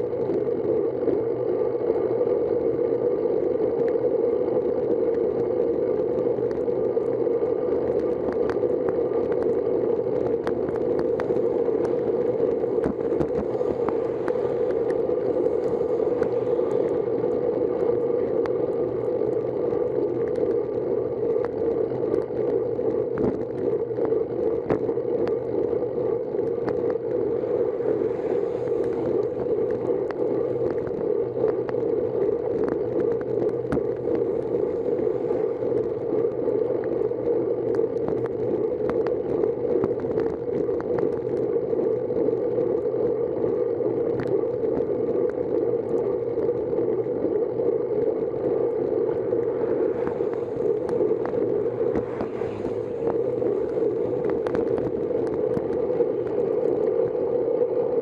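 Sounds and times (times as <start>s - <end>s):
bicycle tyre noise: 0.0s - 58.0s
rushing wind: 0.0s - 58.0s
small ticks: 0.0s - 58.0s.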